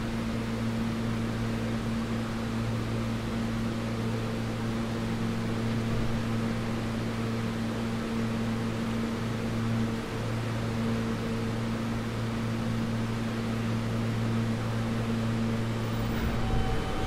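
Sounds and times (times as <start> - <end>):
subway train electrical hum: 0.0 - 17.0.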